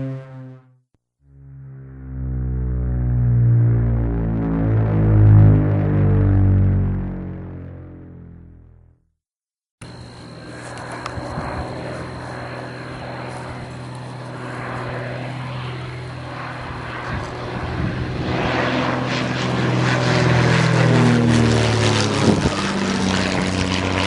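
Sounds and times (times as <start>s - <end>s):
propeller aircraft engine drone: 0.0s - 9.2s, 9.8s - 24.0s.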